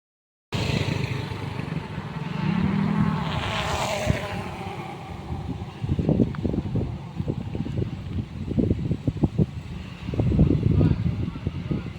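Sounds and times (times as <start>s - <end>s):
bus passing by: 0.6s - 11.9s.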